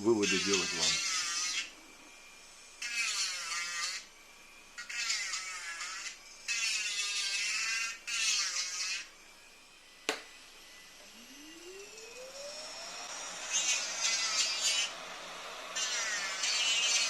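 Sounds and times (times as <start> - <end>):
motor whine rising in pitch: 0.0 - 6.5, 9.0 - 17.0
rotary engraver grinding metal: 0.0 - 10.0, 10.6 - 17.0.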